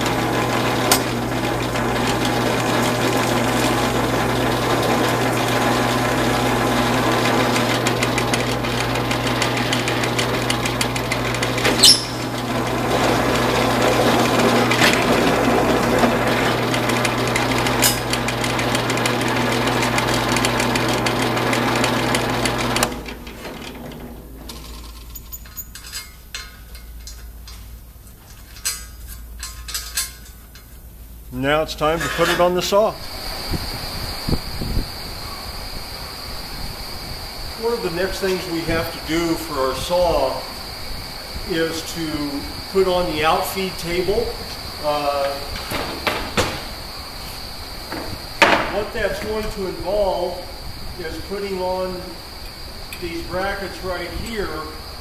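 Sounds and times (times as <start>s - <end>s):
milling machine cutting steel: 0.0s - 30.7s, 35.3s - 55.0s.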